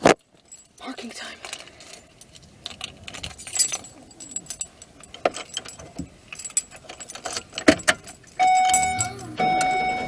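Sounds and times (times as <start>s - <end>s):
keys jangling: 0.2s - 10.0s.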